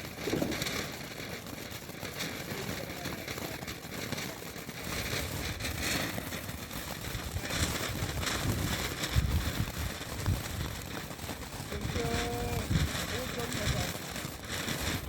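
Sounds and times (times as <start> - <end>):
firework hissing and crackling: 0.0 - 15.0.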